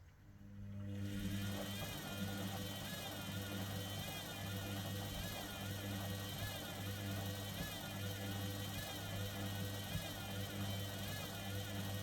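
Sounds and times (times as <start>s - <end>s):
washer-dryer motor humming: 0.9s - 12.0s.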